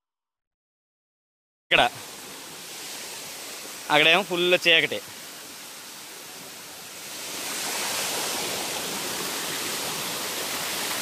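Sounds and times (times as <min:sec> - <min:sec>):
stream water rushing over boulders: 0:01.7 - 0:11.0.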